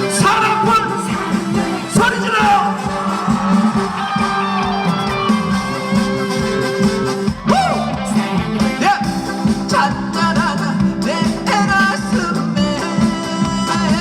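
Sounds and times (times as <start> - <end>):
live band over loudspeakers: 0.0 - 14.0
sliding lead melody: 0.0 - 14.0.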